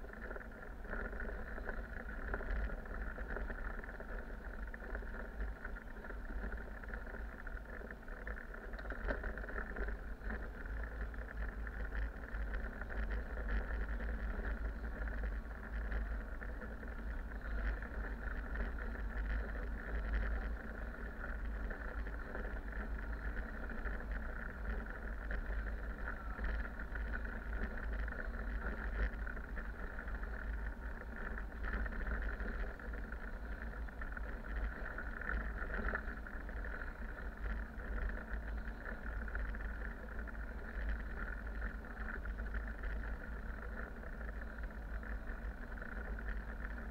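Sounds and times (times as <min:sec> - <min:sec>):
bus engine and road rumble: 0:00.0 - 0:46.9
faint clicks: 0:00.1 - 0:46.9.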